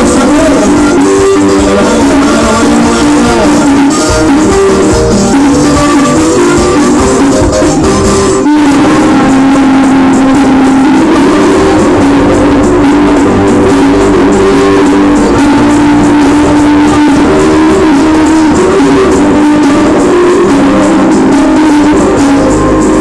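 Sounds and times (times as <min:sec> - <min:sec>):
live dance band playing: 0:00.0 - 0:23.0.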